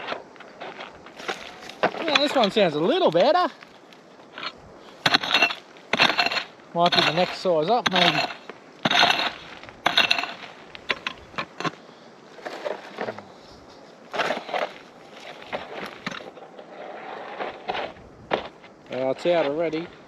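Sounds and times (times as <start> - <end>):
pick striking stony ground: 0.0 - 11.8, 14.1 - 16.4, 17.4 - 19.8
dirt and gravel rattling: 0.0 - 20.0.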